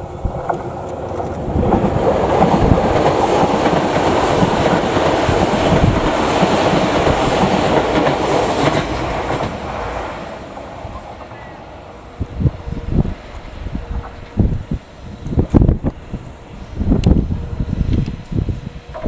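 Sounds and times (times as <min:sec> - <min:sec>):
electric train passing on rails: 0:00.0 - 0:19.0.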